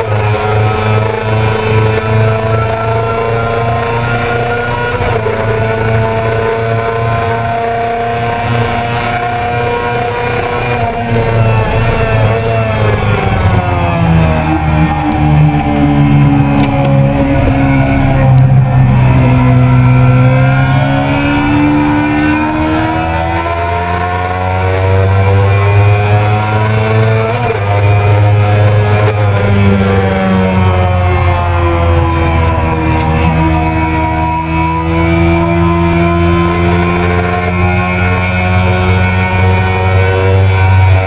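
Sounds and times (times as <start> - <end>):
motorcycle engine revving hard: 0.0 - 41.0.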